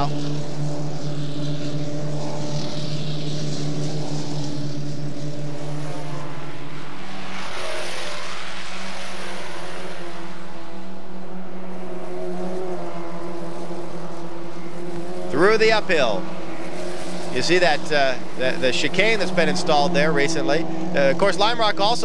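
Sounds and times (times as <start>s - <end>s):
race car engines at speed: 0.0s - 22.0s
race car passing close: 0.0s - 22.0s.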